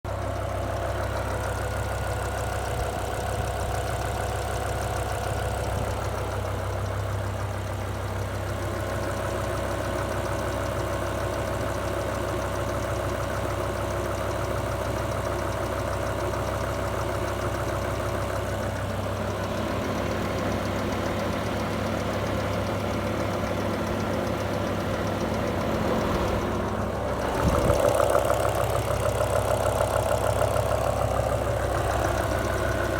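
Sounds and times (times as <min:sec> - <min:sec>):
car engine idling: 0:00.0 - 0:32.9
rapid even engine ticking: 0:00.1 - 0:32.9.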